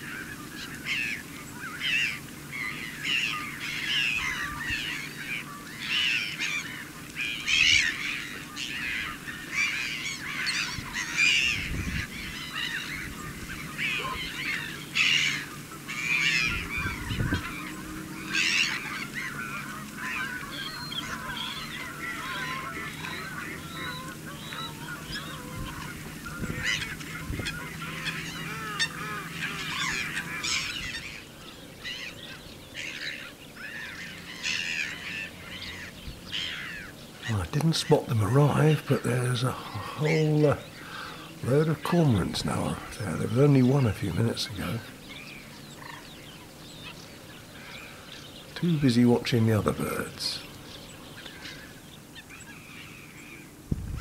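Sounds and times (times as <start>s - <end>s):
wildfowl flock calling: 0.0s - 54.0s.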